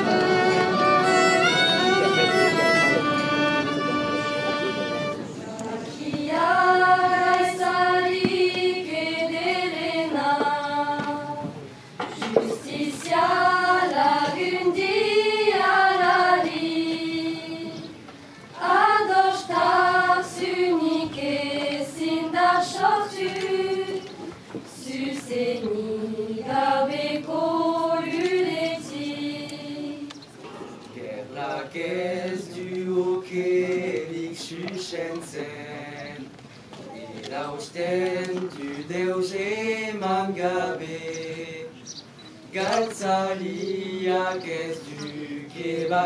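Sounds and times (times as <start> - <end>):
women's choir singing: 0.0 - 18.0, 18.6 - 30.2, 31.0 - 36.3, 37.2 - 41.8, 42.5 - 46.0.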